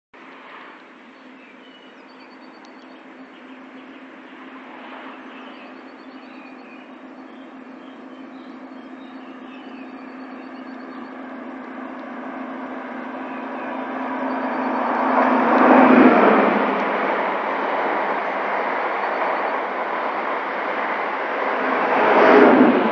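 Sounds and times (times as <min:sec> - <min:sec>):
passenger train passing: 0:00.2 - 0:22.9
low hum: 0:01.0 - 0:22.9.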